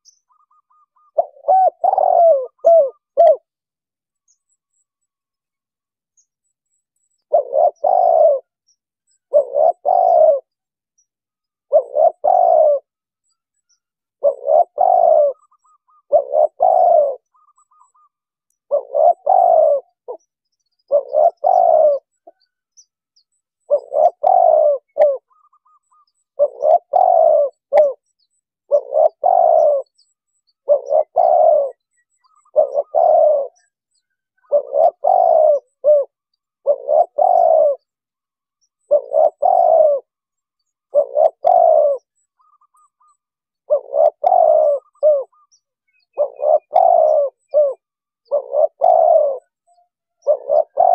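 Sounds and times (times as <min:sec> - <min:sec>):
dove cooing: 0:00.0 - 0:03.6, 0:07.2 - 0:10.6, 0:11.6 - 0:13.0, 0:14.2 - 0:22.5, 0:23.6 - 0:38.0, 0:38.7 - 0:50.9.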